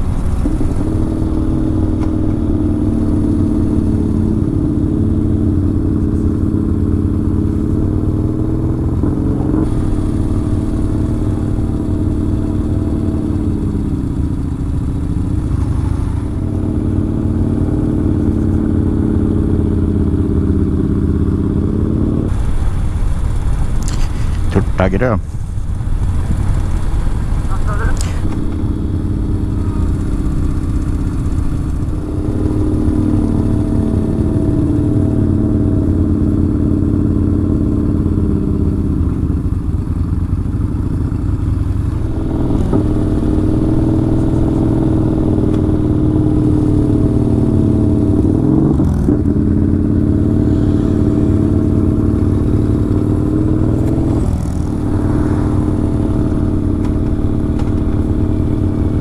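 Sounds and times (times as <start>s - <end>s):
motorcycle engine under way: 0.0s - 59.0s.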